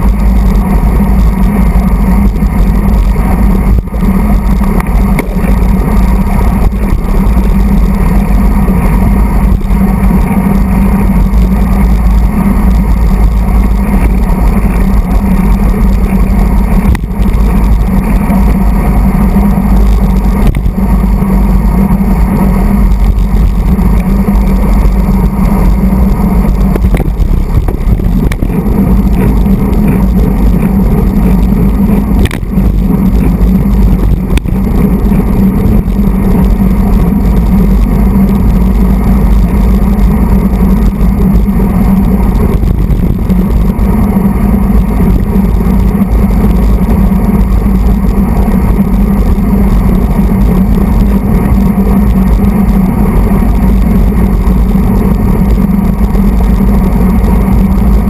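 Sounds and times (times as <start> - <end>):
road vibration rumble: 0.0 - 58.0
wind buffeting microphone: 0.0 - 58.0.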